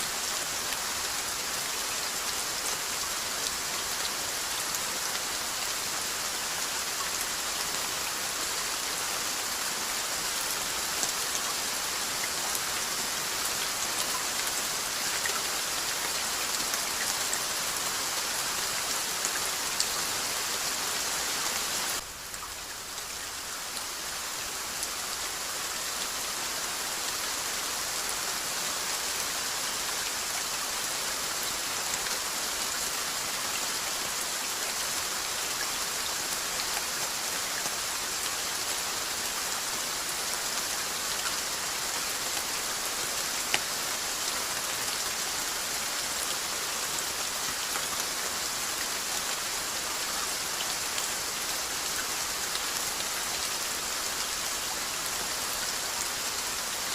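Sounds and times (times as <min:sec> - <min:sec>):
steady rain patter: 0:00.0 - 0:56.9.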